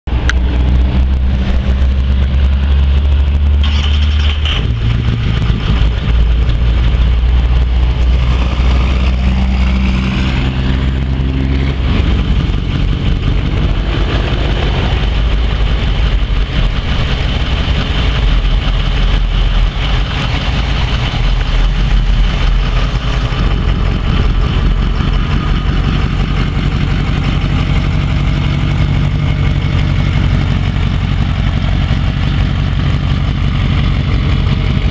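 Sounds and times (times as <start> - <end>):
pickup engine idling: 0.1 - 34.9.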